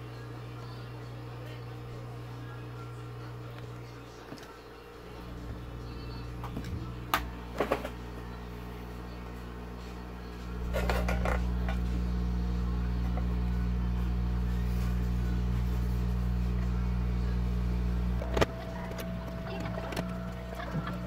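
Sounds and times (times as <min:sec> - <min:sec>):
hot air blower humming: 0:00.0 - 0:21.0.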